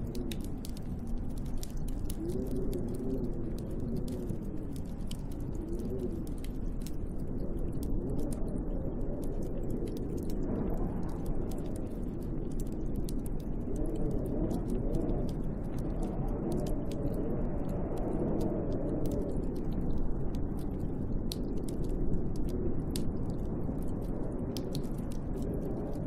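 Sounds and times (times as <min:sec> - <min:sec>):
faint scattered ticks: 0:00.0 - 0:26.0
wind blowing with low moan: 0:00.0 - 0:26.0.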